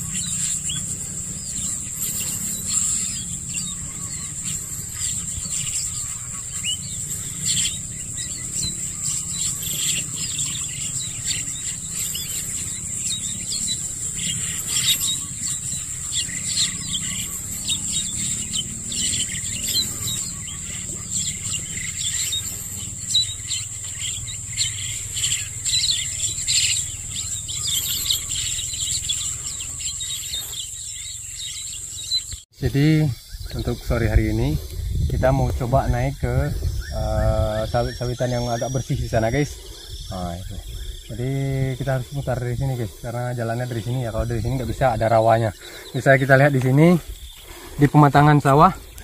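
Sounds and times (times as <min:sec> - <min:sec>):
insects buzzing: 0:00.0 - 0:49.0
small birds chirping: 0:00.0 - 0:49.0.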